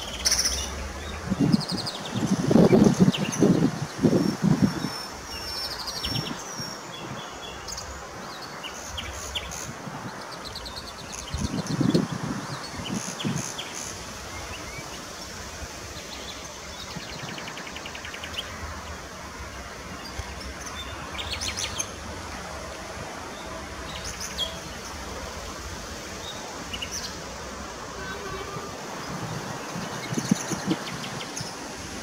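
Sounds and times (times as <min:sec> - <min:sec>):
birds singing and chirping: 0:00.0 - 0:22.1, 0:23.3 - 0:25.1, 0:28.0 - 0:31.8.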